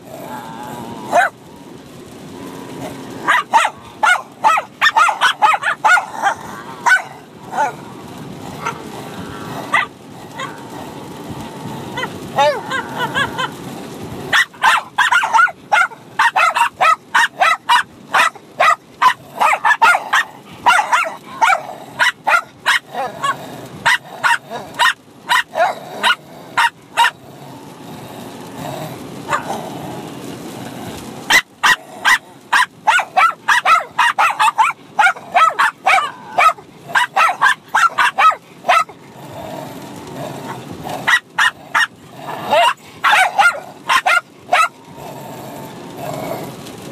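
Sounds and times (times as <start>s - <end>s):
dogs barking: 1.1s - 1.4s, 2.7s - 10.8s, 11.9s - 13.6s, 14.3s - 27.2s, 28.4s - 30.2s, 31.2s - 44.9s.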